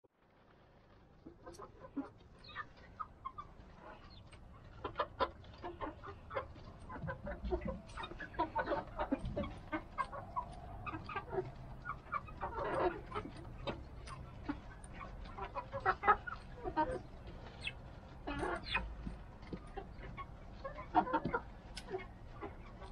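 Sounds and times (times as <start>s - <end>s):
chickens clucking: 1.2s - 22.9s.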